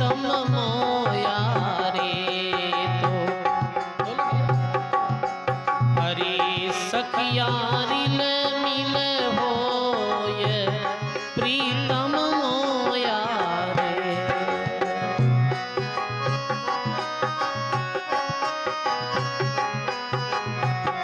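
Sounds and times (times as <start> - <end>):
hand drum beating: 0.0 - 21.0
harmonium melody: 0.0 - 21.0.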